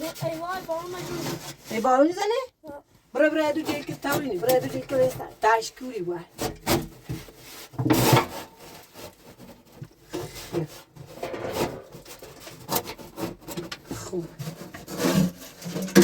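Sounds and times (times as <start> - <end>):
hard material scraping: 0.0 - 2.2, 3.4 - 16.0.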